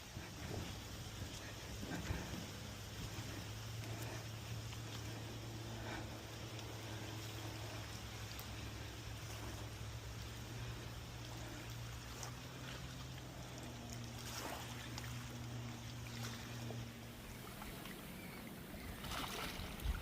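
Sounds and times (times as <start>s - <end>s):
faint wash like running water: 0.0s - 20.0s
motor low hum: 0.0s - 20.0s.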